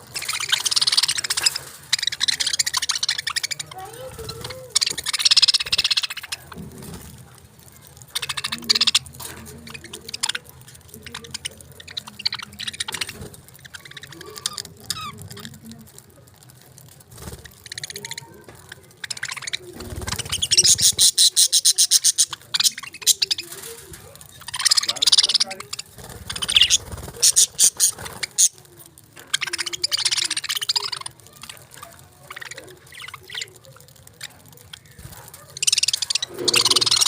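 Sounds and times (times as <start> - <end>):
budgerigars chirping and chattering: 0.0 - 37.0.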